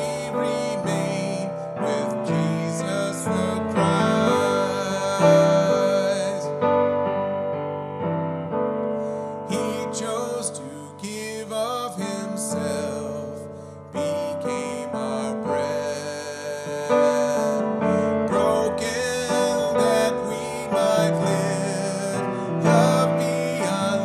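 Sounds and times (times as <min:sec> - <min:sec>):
piano playing hymn accompaniment: 0:00.0 - 0:24.0.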